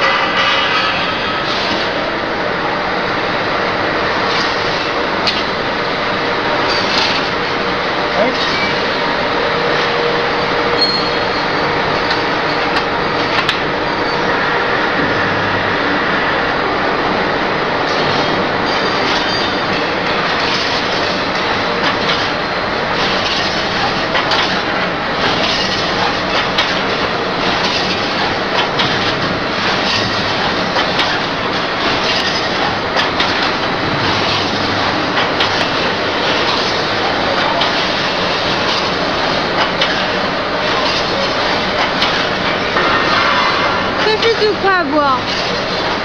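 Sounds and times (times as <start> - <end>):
welding machine clattering: 0.0 - 14.3, 17.8 - 46.0.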